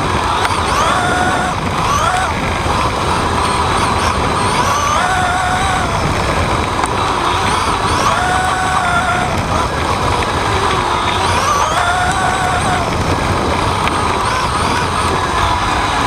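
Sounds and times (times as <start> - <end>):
rc buggy motor whine: 0.0 - 16.0
tyre and wind noise: 0.0 - 16.0.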